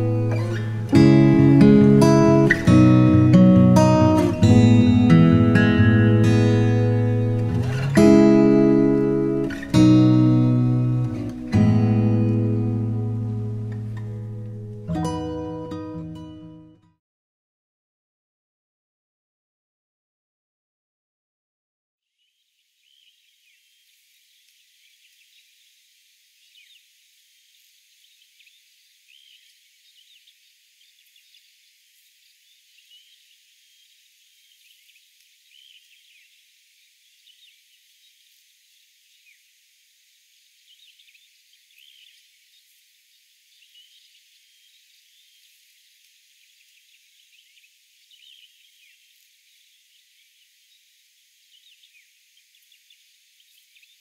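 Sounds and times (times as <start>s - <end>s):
high insect hum: 0.0s - 15.3s, 22.2s - 54.0s.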